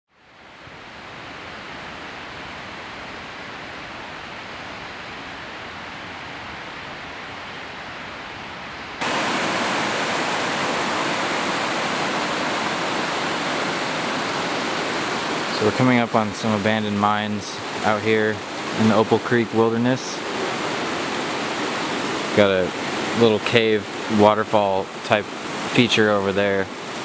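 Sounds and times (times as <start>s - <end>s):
creek white water rushing: 0.2s - 27.0s.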